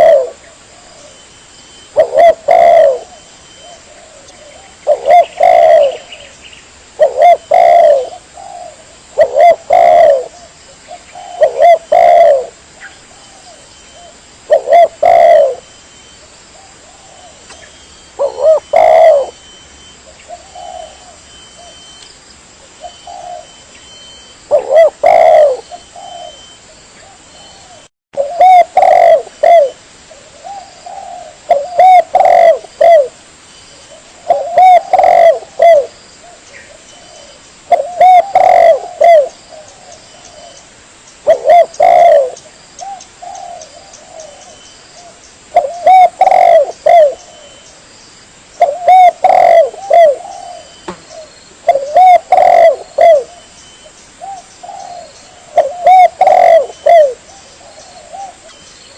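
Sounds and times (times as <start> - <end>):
dove cooing: 0.0 - 1.2, 1.8 - 15.7, 16.6 - 22.0, 22.7 - 33.2, 33.8 - 40.6, 41.2 - 47.7, 48.6 - 58.9.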